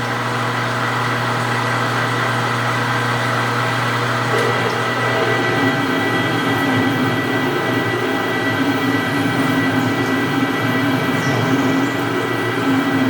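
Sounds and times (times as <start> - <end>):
lathe gear whine: 0.0 - 13.0.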